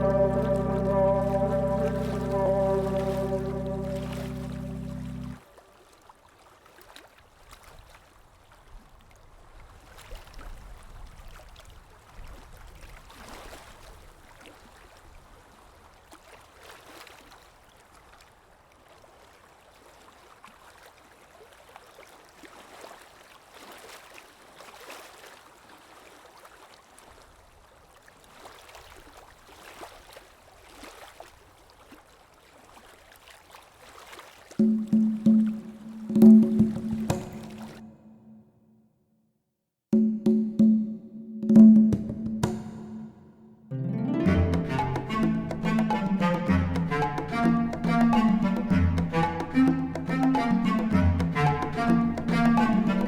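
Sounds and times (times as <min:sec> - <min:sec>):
river water flowing and splashing: 0:00.0 - 0:38.3, 0:43.8 - 0:53.0.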